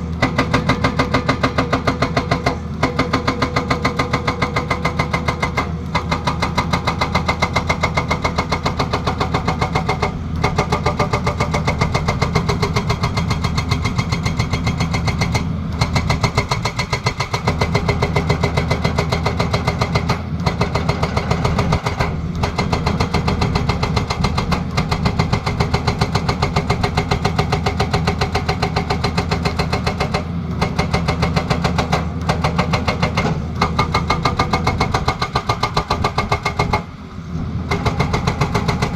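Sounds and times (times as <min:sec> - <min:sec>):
hydraulic breaker hammering: 0:00.0 - 0:37.0, 0:37.6 - 0:38.9
diesel engine running: 0:00.0 - 0:38.9.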